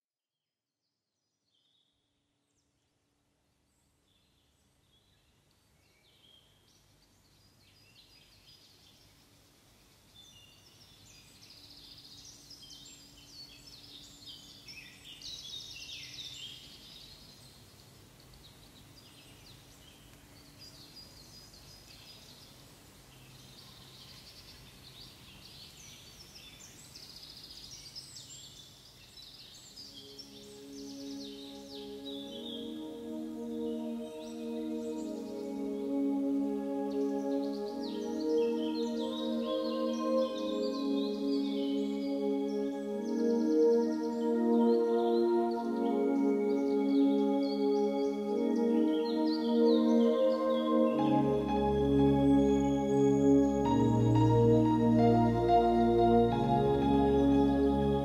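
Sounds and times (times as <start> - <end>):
small birds chirping and twittering: 3.7 - 58.0.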